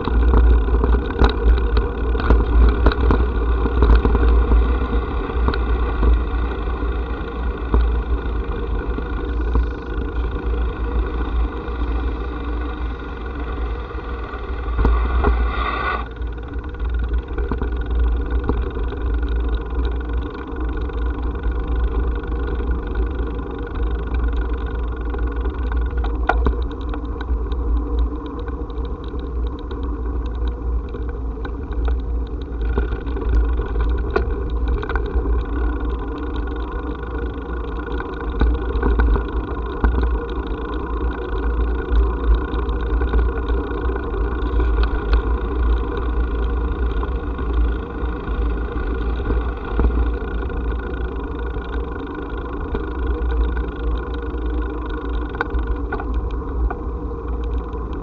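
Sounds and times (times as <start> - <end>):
vehicle motor hum: 0.0 - 58.0
wind rumble on microphone: 0.0 - 58.0.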